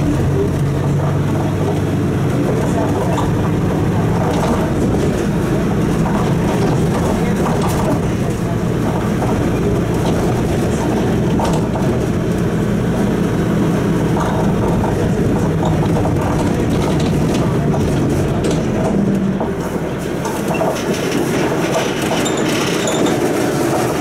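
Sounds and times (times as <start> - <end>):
bus engine hum: 0.0 - 24.0
road noise: 0.0 - 24.0.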